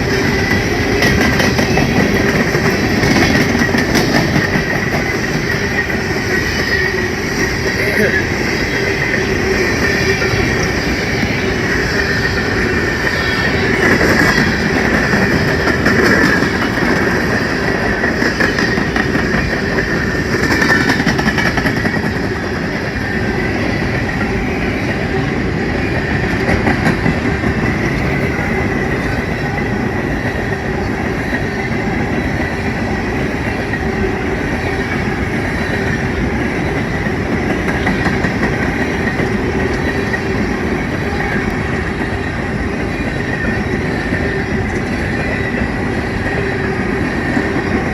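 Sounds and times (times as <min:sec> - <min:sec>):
train wheels clacking over rail joints: 0:00.0 - 0:25.0, 0:26.1 - 0:47.9.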